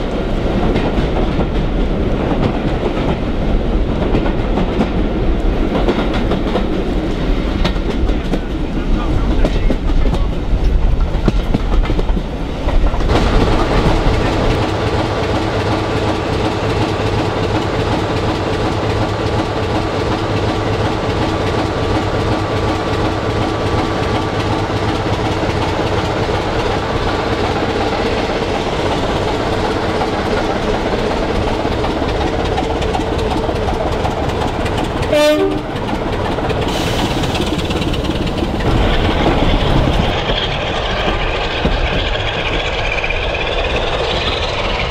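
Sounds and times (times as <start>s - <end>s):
coach and rail noise: 0.0s - 44.9s
diesel locomotive engine drone: 0.0s - 44.9s.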